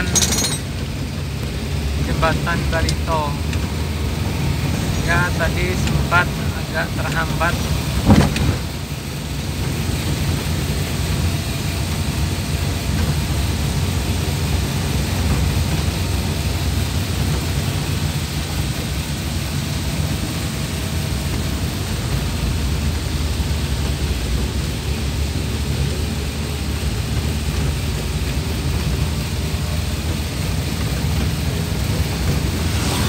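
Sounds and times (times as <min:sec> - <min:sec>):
vehicle driving on wet road: 0:00.8 - 0:33.0.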